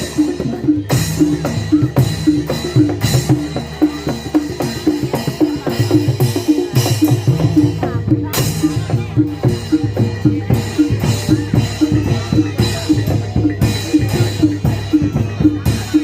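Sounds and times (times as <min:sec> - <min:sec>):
hand drum beats: 0:00.0 - 0:16.0
metal percussion strokes: 0:00.0 - 0:16.0.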